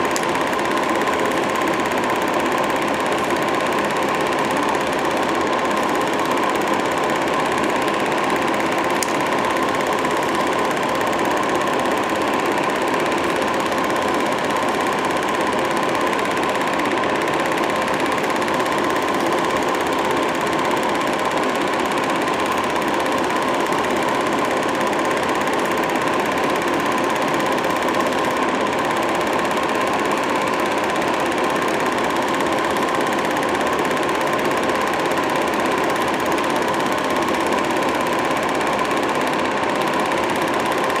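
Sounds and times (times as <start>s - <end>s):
film projector whirring and clattering: 0.0s - 41.0s.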